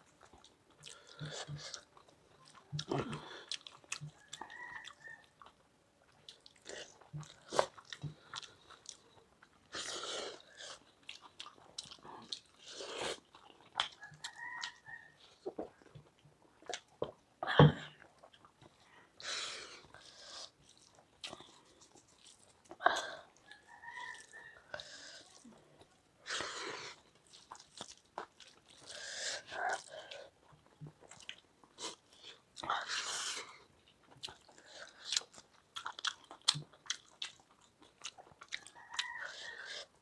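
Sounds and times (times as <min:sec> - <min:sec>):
chewing and mouth sounds: 0:00.0 - 0:17.2, 0:17.9 - 0:19.0, 0:19.8 - 0:40.0.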